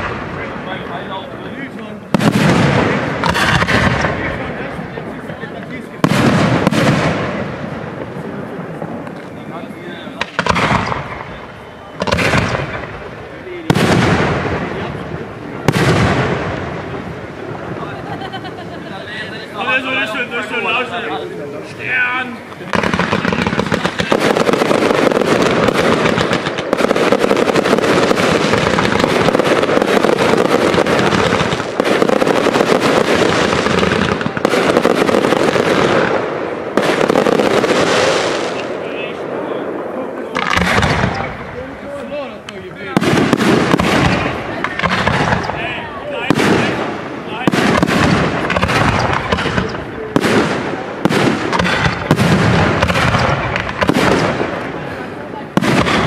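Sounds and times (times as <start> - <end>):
fireworks crackling: 0.0 - 56.0.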